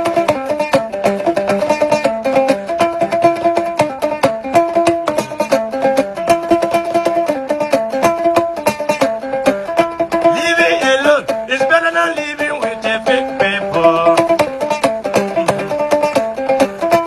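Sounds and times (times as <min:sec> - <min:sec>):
fast plucked melody: 0:00.0 - 0:17.0.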